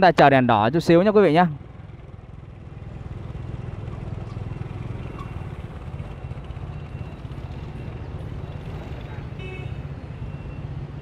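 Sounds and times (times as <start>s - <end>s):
motorbike engines idling: 0.0s - 10.6s.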